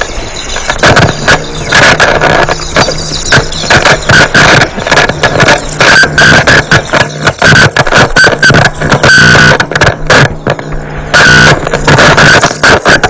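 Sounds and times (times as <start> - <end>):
distorted noise bursts: 0.0 - 13.0
high whine: 0.0 - 13.0.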